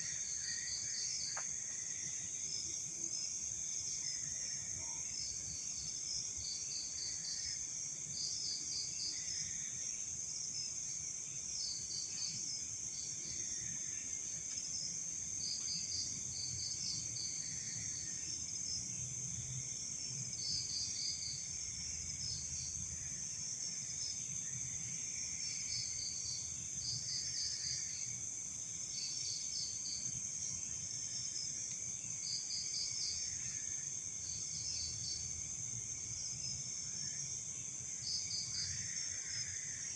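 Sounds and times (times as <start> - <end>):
crickets trilling: 0.0 - 39.9
high steady insect buzz: 0.0 - 39.9.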